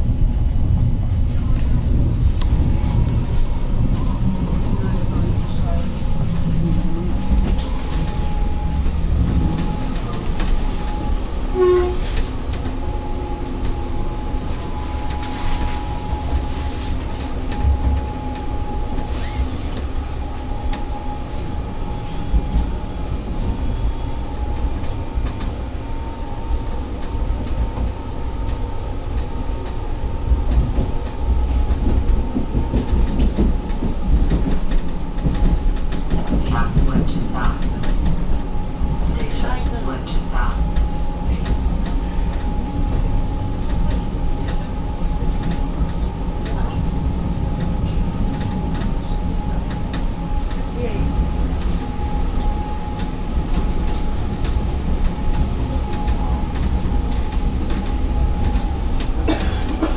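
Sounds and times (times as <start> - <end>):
train running gear rumble: 0.0 - 59.9.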